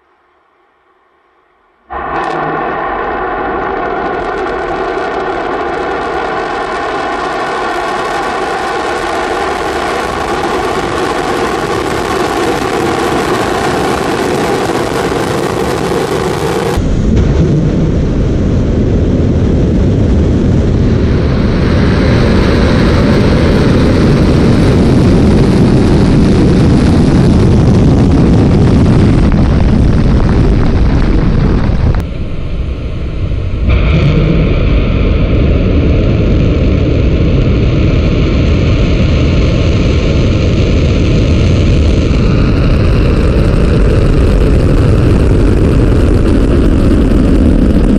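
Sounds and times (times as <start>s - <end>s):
rocket engine roaring: 1.8s - 47.9s.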